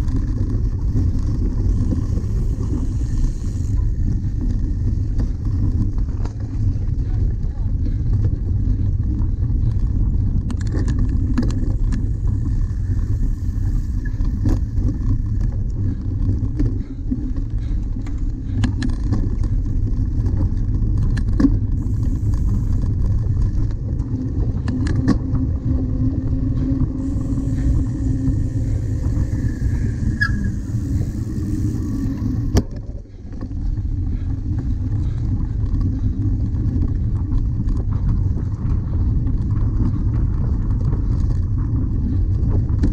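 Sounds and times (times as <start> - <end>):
bike rattling over bumps: 0.0 - 42.9
wind buffeting microphone: 0.0 - 42.9.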